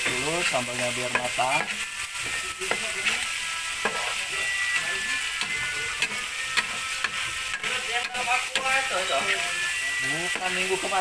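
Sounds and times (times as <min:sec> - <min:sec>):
sauce sizzling in oil: 0:00.0 - 0:11.0
spoon scraping a pan: 0:00.0 - 0:11.0.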